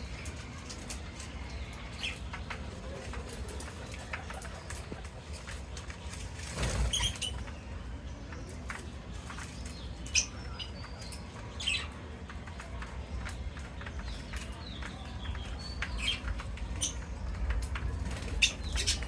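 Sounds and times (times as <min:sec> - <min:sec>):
parrots feeding clicks and taps: 0:00.1 - 0:06.4, 0:08.2 - 0:19.0.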